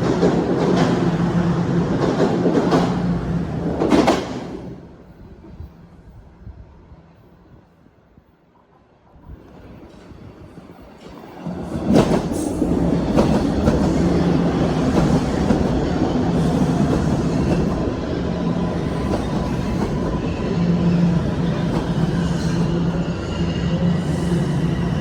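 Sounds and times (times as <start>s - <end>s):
subway train rumbling past: 0.0s - 25.0s.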